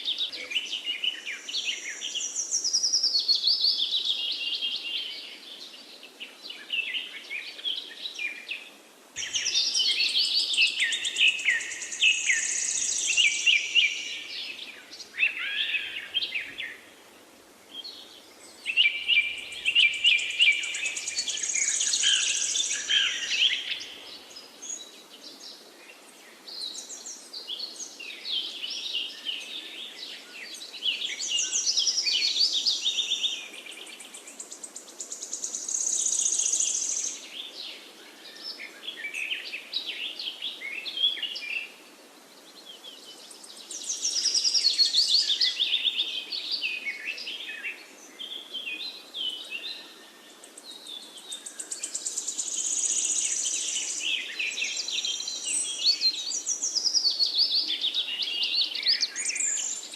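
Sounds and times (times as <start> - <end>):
faint steady hiss: 0.0 - 59.9
songbirds chirping and trilling: 0.0 - 59.9.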